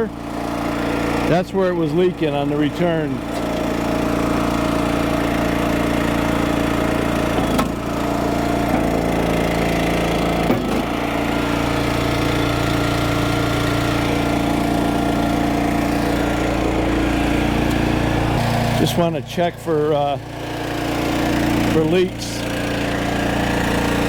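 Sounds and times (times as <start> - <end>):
log splitter engine running: 0.0 - 24.0.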